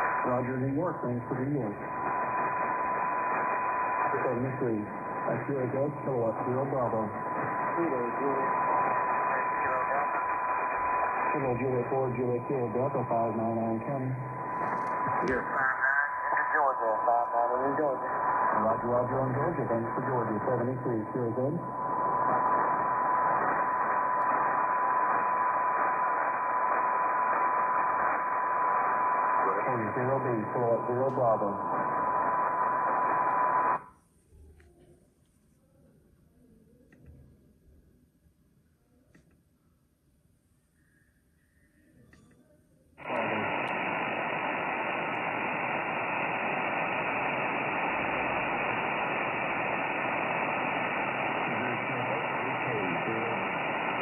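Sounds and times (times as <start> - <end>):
radio receiver hiss: 0.0 - 33.9, 43.0 - 54.0.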